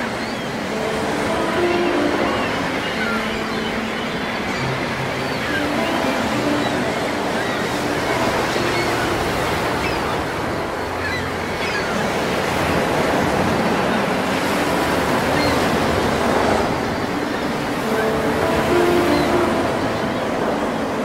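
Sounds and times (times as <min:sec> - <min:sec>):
choppy waves: 0:00.0 - 0:21.0.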